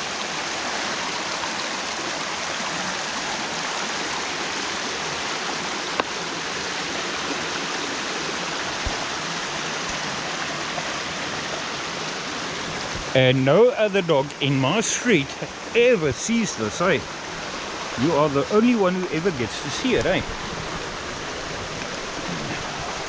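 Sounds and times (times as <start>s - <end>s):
stream rushing water: 0.0s - 23.0s.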